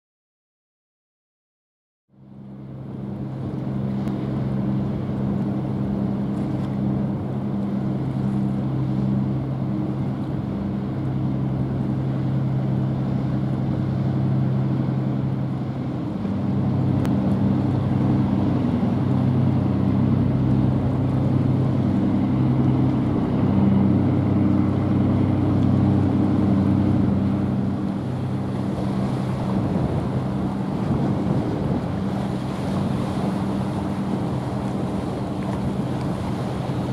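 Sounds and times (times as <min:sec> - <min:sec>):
bow wave wash: 0:02.2 - 0:36.9
ship diesel engine humming: 0:02.2 - 0:36.9
wind on microphone: 0:03.8 - 0:36.9.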